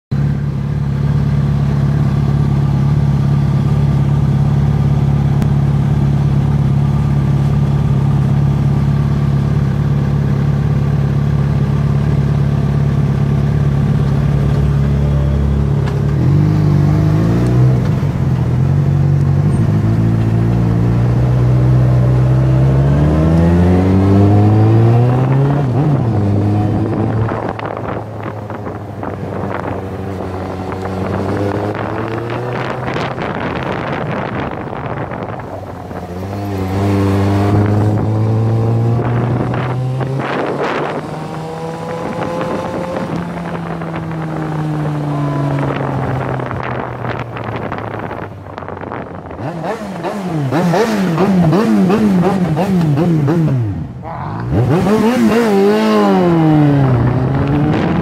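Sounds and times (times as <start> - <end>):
motorcycle engines idling and revving: 0.1 - 58.0.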